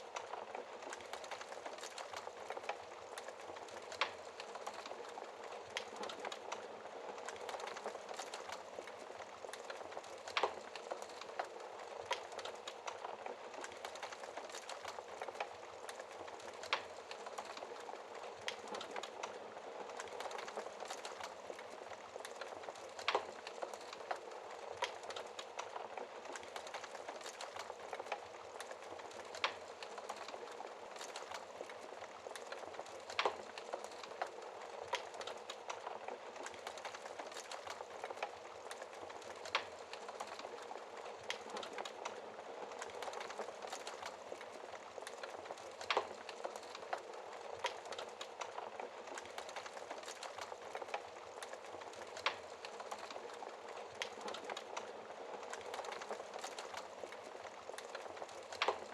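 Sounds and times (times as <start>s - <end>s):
wood logs crackling in fireplace: 0.0s - 58.9s.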